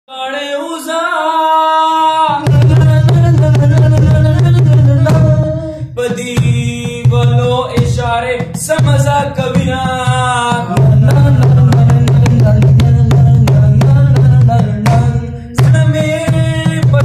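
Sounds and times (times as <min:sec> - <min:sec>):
hand drumming on plastic tub: 0:02.4 - 0:17.0.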